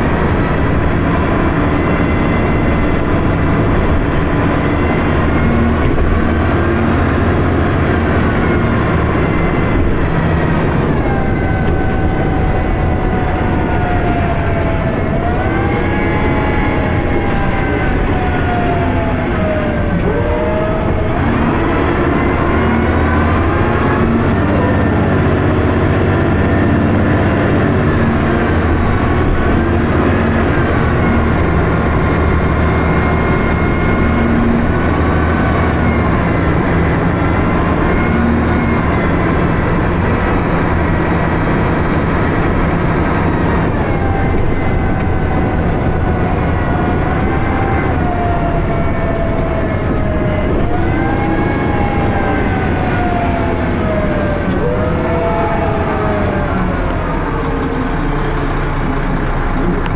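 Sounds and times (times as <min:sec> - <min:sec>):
bus engine under load: 0:00.0 - 0:59.9.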